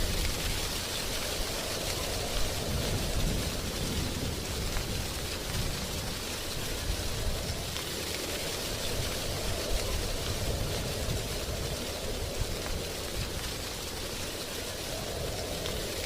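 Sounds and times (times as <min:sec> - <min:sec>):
wind rustling leaves: 0:00.0 - 0:16.0.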